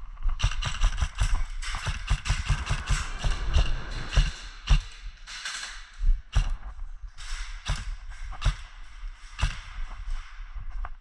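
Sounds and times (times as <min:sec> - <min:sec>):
footsteps inside building: 0:00.0 - 0:11.0.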